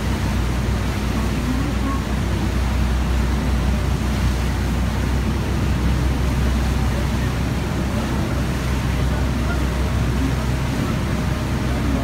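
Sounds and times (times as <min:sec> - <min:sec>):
boat engine droning: 0:00.0 - 0:12.0
wind and water rushing: 0:00.0 - 0:12.0.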